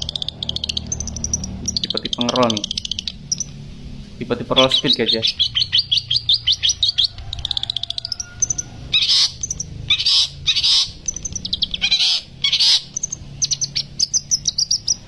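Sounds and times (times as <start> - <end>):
bird singing rolling song: 0.0 - 15.0
harsh rasping bird calls: 0.0 - 15.0.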